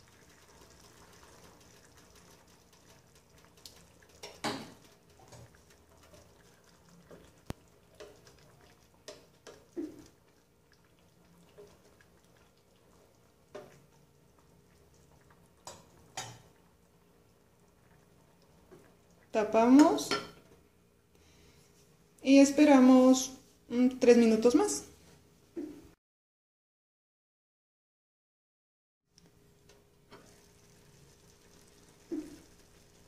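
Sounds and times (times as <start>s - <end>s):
faint simmering: 0.0s - 26.0s, 29.1s - 33.0s.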